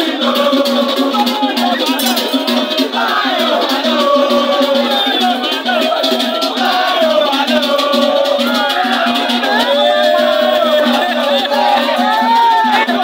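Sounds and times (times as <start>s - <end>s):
crowd: 0.0s - 13.0s
shaker rattles: 0.0s - 13.0s
voices singing and chanting: 0.0s - 13.0s.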